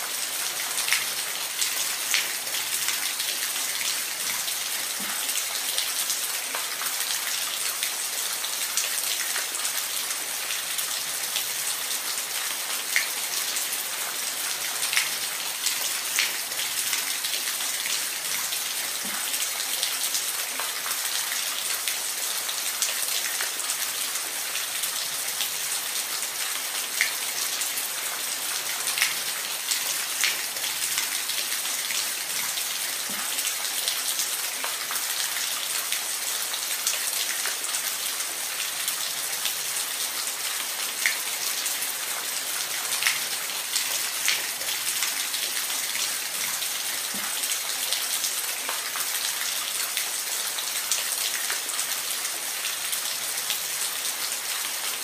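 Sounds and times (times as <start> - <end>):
water splashes and drips: 0.0 - 55.0.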